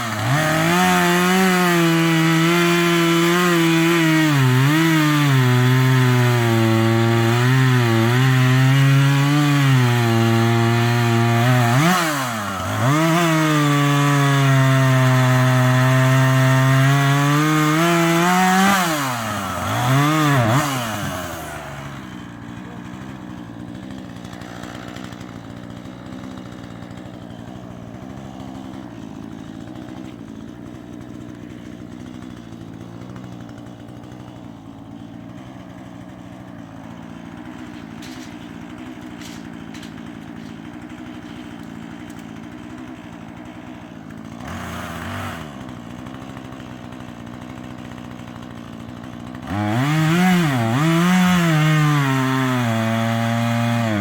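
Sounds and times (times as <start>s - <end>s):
chainsaw idling: 0.0s - 54.0s
chainsaw running at high revs: 0.0s - 54.0s.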